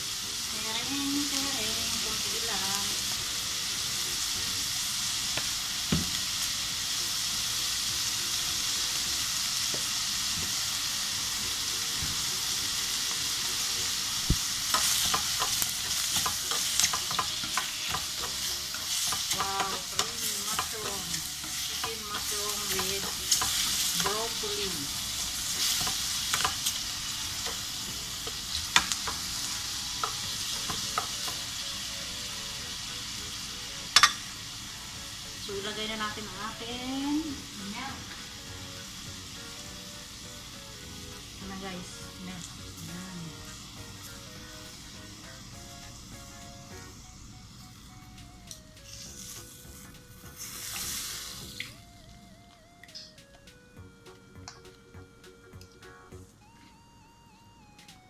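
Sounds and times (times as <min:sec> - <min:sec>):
vegetables sizzling in a pan: 0:00.0 - 0:51.8.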